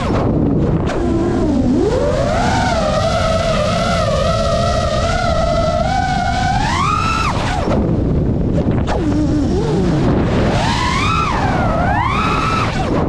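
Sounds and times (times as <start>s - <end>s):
drone motors whining: 0.0s - 13.0s
rush of air: 0.0s - 13.0s.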